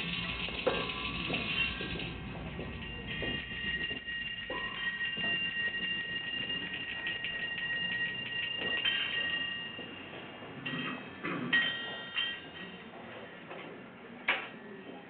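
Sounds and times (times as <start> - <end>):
struck metal objects ringing: 0.0 - 13.0.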